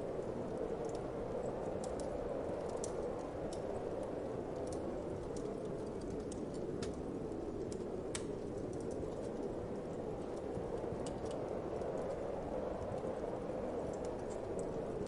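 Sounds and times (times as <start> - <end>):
low rushing wind: 0.0 - 15.0
wood fire crackling and popping: 0.1 - 15.0.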